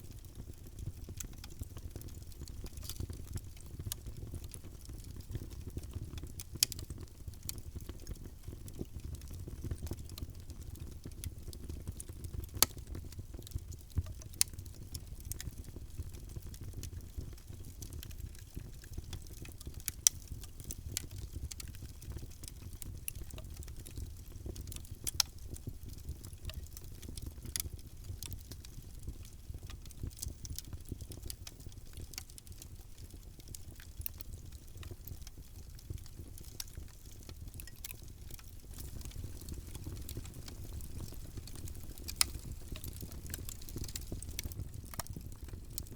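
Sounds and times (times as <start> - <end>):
low rumble of flames: 0.1 - 45.9
fire pops and snaps: 0.3 - 45.9.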